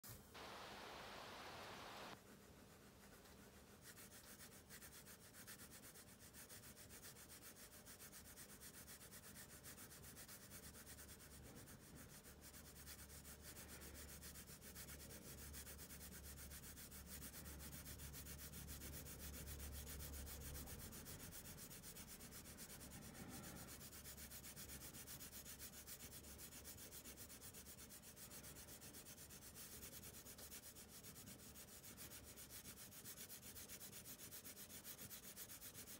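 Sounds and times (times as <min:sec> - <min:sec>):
pencil scratching on paper: 0:02.1 - 0:35.9.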